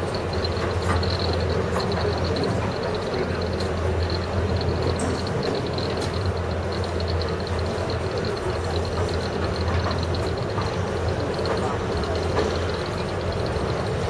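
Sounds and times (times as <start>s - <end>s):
diesel locomotive engine hum: 0.0s - 14.0s
train wheels on rail: 0.0s - 14.0s.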